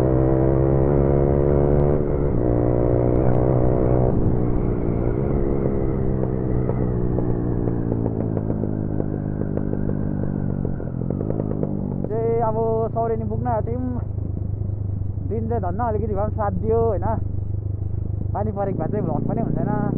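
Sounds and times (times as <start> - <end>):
motorcycle engine running: 0.0 - 19.9
wind rumble: 0.0 - 19.9.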